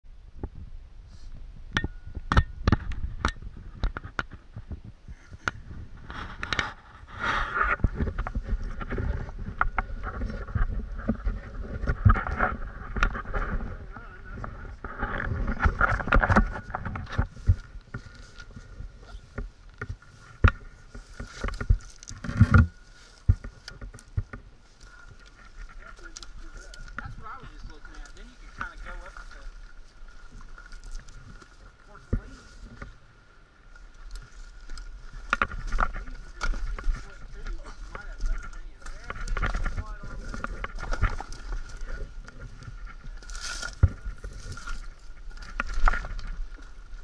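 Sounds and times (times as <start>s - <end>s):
faint low rumble: 0.1s - 47.0s.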